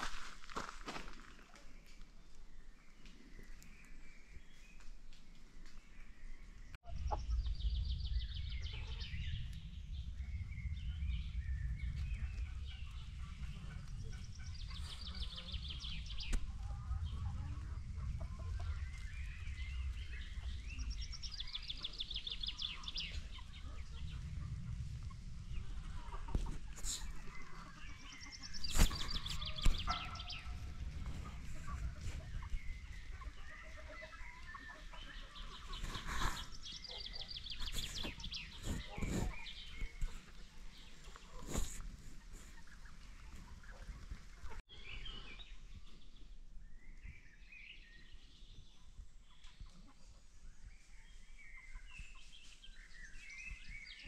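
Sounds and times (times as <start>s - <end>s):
birds calling: 5.7s - 49.6s.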